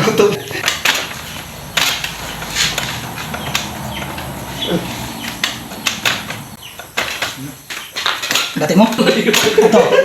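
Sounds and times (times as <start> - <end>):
sharp cracks and rustles: 0.6 - 9.7.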